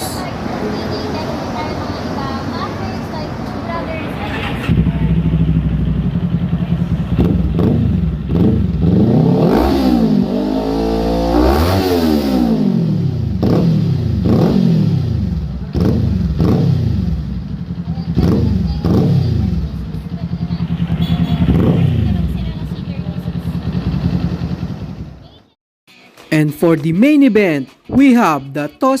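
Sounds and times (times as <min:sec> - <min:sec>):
motorcycle engine idling and revving: 0:00.0 - 0:25.6.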